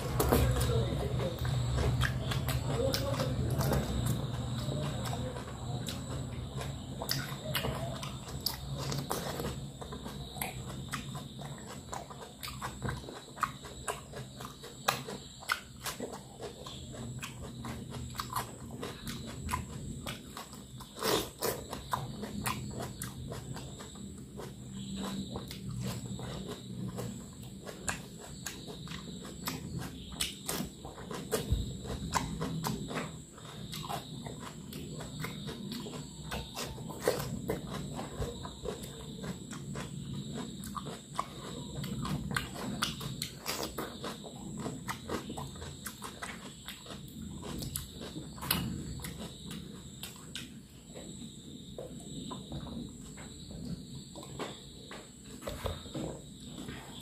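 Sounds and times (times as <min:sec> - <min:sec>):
chewing and biting vegetables: 0:00.0 - 0:57.0.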